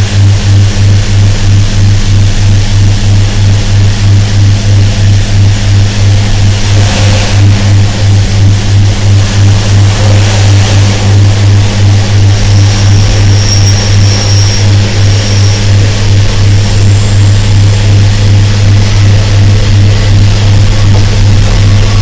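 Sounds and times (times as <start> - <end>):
train engine humming: 0.0 - 22.0.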